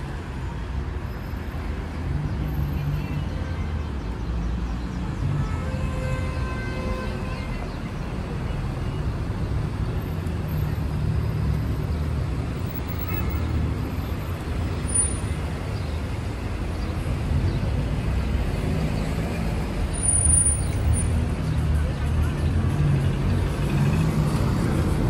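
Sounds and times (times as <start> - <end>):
cars passing rumble: 0.0 - 25.0.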